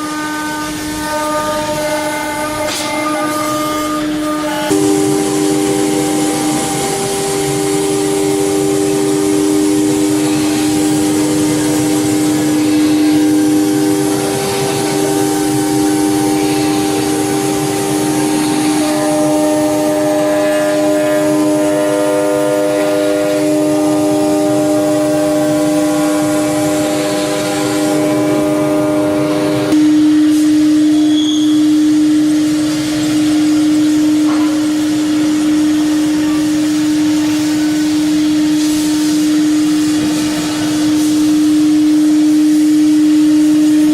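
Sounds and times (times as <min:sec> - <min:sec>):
router spindle high pitch whine: 0:00.0 - 0:43.9.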